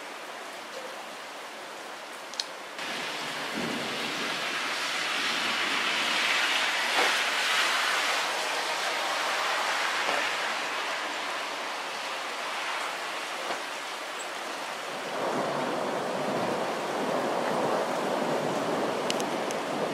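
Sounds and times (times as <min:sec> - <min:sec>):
heavy rain hissing: 0:02.8 - 0:19.9.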